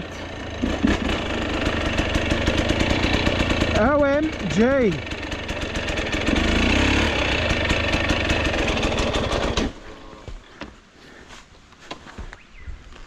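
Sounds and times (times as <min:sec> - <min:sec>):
dirt bike engine running: 0:00.0 - 0:10.5.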